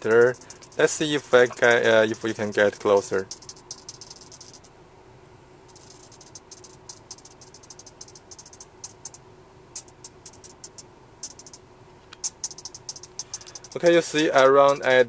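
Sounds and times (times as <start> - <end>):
servo chattering clicks: 0.0 - 4.7, 5.7 - 9.2, 9.8 - 15.0
faint steady hum: 0.0 - 15.0.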